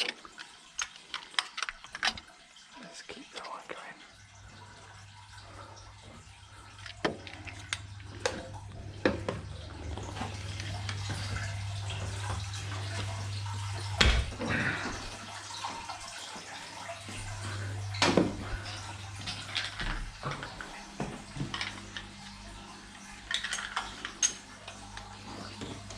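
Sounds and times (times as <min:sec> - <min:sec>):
water running from plumbing: 0:00.0 - 0:25.9.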